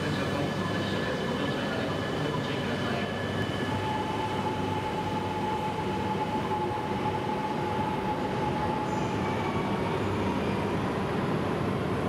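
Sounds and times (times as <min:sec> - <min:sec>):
train humming: 0:00.0 - 0:12.0.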